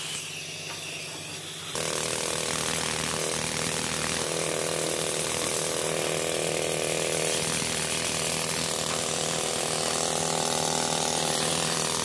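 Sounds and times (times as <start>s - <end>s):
pneumatic rock drill hammering: 0.0s - 12.0s.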